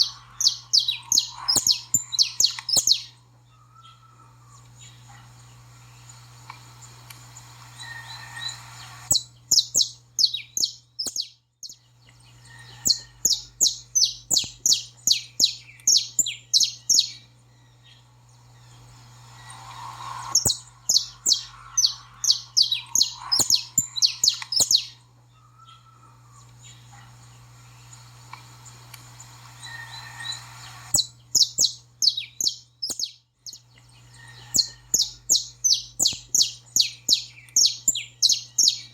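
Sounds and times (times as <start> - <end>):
finch chirping: 0.0 - 5.2, 6.8 - 27.1, 29.1 - 38.9
low hum: 0.0 - 11.0, 11.7 - 32.4.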